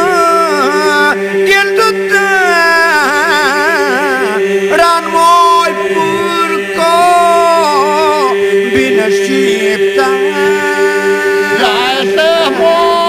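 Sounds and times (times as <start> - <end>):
held vocal drone: 0.0 - 13.0
lead voice singing ornaments: 0.0 - 13.0.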